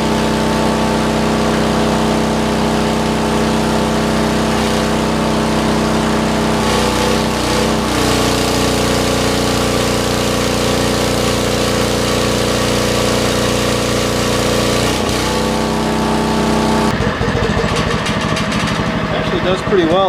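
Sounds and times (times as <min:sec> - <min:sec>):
engine-driven welder running: 0:00.0 - 0:20.0.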